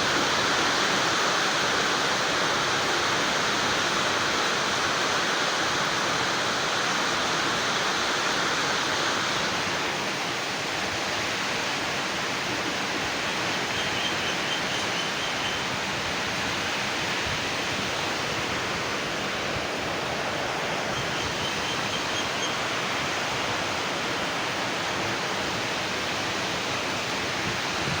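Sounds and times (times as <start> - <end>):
steady rushing hiss: 0.0 - 28.0.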